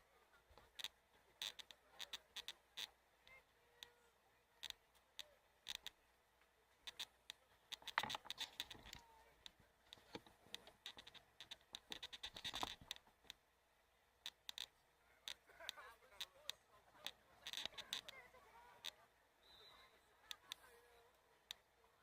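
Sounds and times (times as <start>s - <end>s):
faint clicks and scratching: 0.3s - 13.4s, 14.2s - 19.1s, 20.2s - 22.0s.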